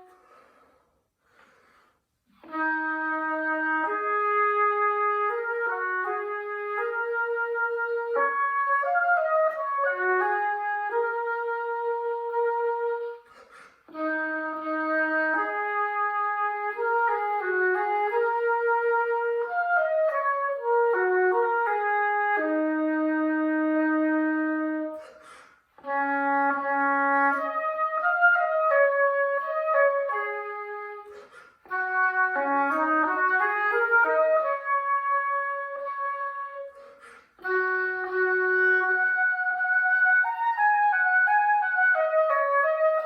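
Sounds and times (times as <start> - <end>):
solo oboe melody: 0.0 - 0.8, 2.2 - 43.0.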